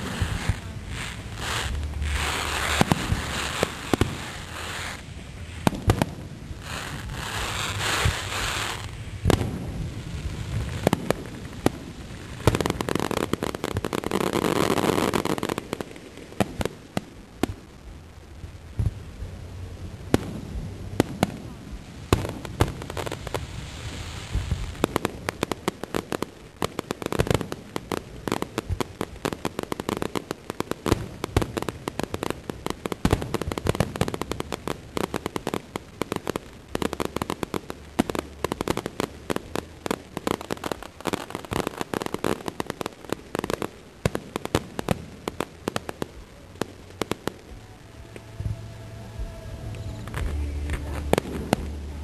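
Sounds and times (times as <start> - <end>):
fireworks bangs: 0.0 - 17.8, 20.0 - 52.0.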